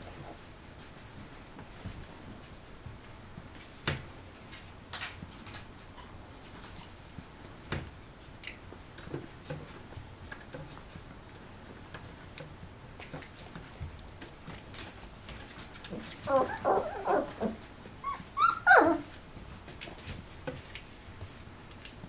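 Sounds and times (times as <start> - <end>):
puppy claws on floor: 0.0 - 22.0.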